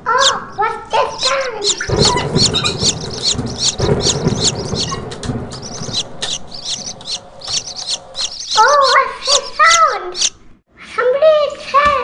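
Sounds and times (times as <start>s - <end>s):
baby birds peeping: 0.0s - 10.5s
low rumbling noise: 0.0s - 10.6s.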